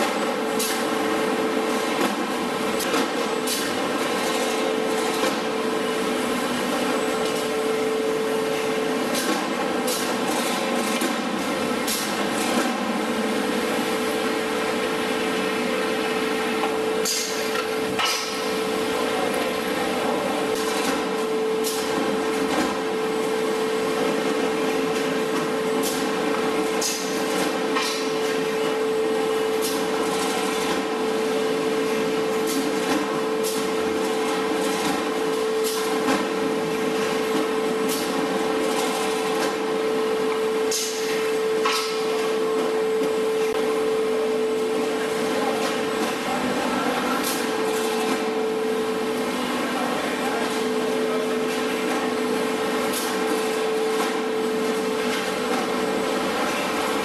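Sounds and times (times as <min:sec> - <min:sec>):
machine hum with whine: 0:00.0 - 0:57.0.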